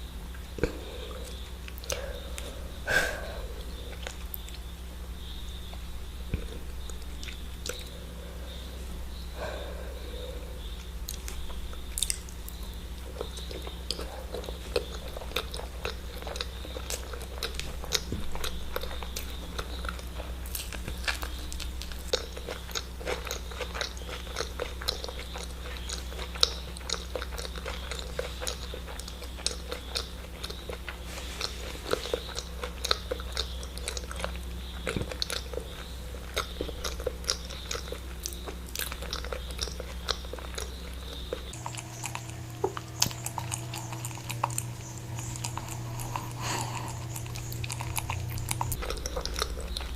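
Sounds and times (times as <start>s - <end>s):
low background hum: 0.0s - 49.9s
person chewing and smacking: 0.0s - 49.9s.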